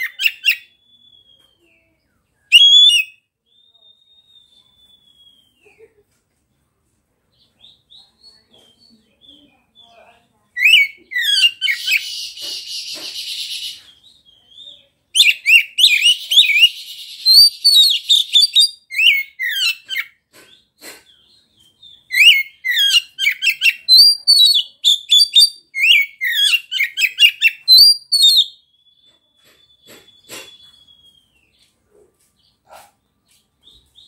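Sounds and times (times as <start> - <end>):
bird singing whistled notes: 0.0 - 5.7, 7.6 - 20.1, 21.4 - 31.7.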